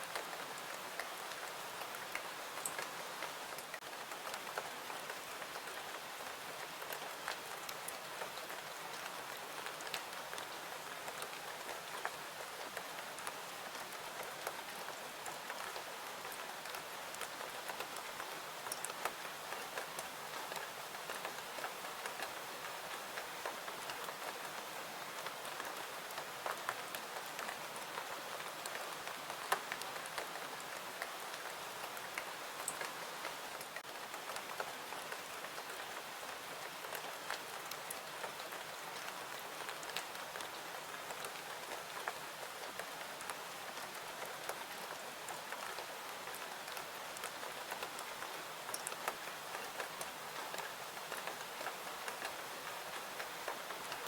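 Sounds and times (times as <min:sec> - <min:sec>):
rain hiss: 0:00.0 - 0:54.0
rain drops ticking: 0:00.1 - 0:54.0.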